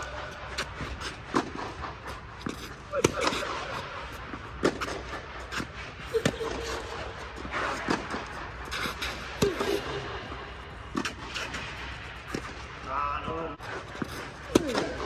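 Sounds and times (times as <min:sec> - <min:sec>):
rackets hitting tennis ball: 0:00.0 - 0:12.9, 0:13.8 - 0:15.0.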